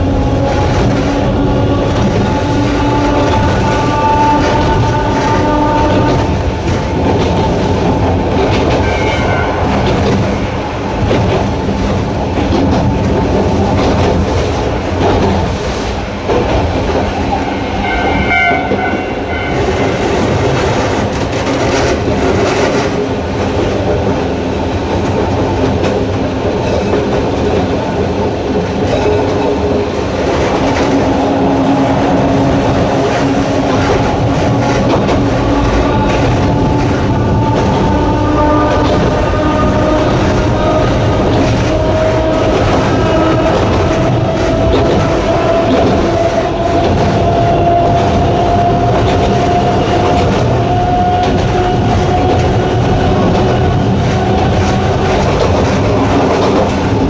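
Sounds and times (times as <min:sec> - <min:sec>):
electric railcar motors: 0:00.0 - 0:57.0
wheels on rail: 0:00.0 - 0:57.0.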